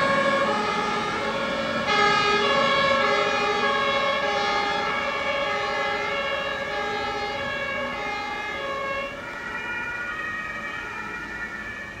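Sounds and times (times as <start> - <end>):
two-tone emergency sirens: 0.0 - 12.0.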